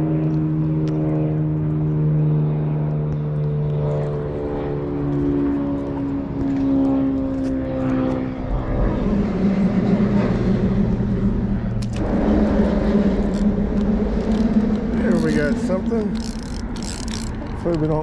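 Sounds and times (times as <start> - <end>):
passing engine drone: 0.0 - 18.0.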